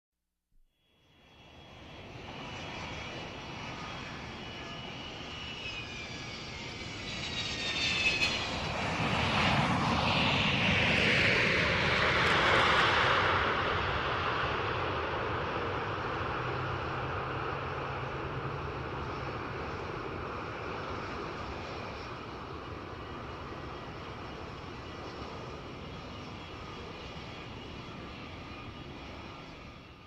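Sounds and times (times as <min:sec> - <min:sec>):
jet engines whining: 0:01.0 - 0:30.0
rushing roar of jet: 0:01.5 - 0:29.8.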